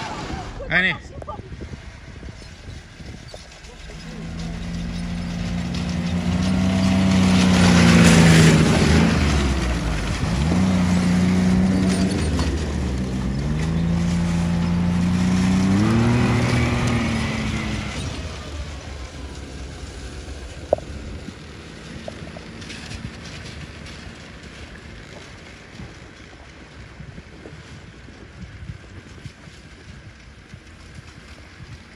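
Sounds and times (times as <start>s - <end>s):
snowmobile engine passing: 0.0s - 31.9s.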